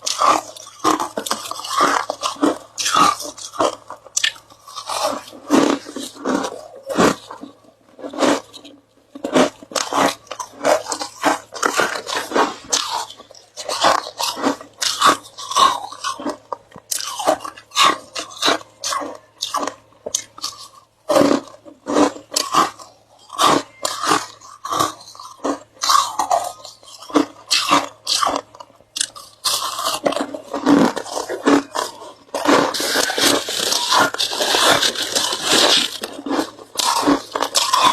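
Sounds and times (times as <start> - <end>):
ice being chewed: 0.0 - 37.9.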